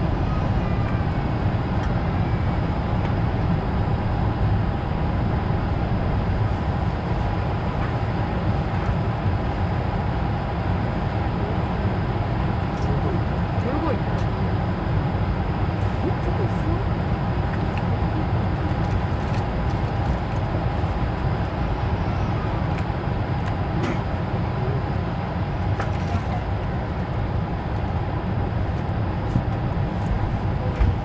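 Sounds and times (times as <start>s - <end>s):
aircraft cabin rumble: 0.0s - 31.0s.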